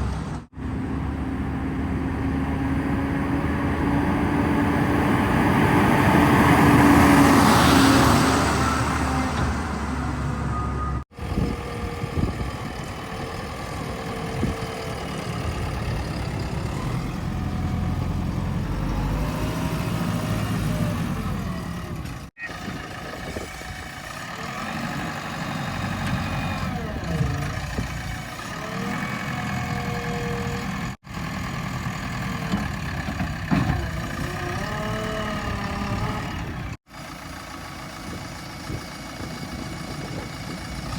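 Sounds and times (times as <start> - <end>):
heavy machinery diesel engines revving: 0.0 - 40.9.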